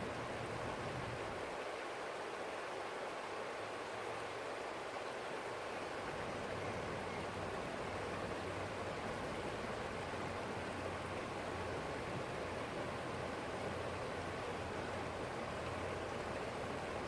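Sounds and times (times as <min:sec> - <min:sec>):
small stream flowing: 0:00.0 - 0:17.0.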